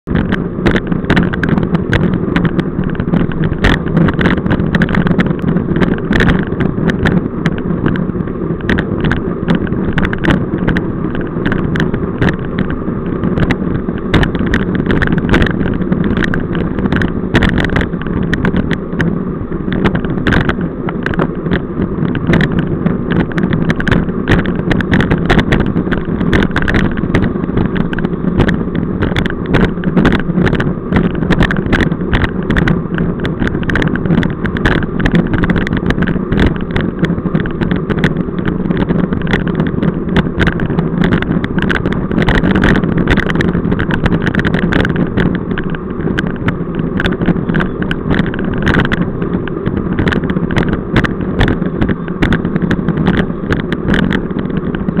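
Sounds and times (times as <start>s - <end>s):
road and tyre rumble: 0.0s - 55.0s
sharp clicks and rattles: 0.0s - 55.0s
wind rushing over microphone: 0.0s - 55.0s.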